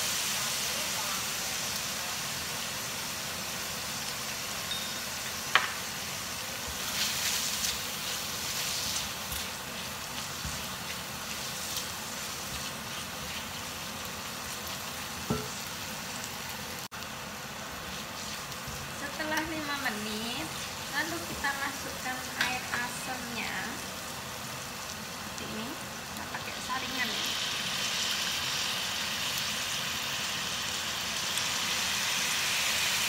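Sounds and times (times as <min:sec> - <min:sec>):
spice paste sizzling in a wok: 0:00.0 - 0:33.0.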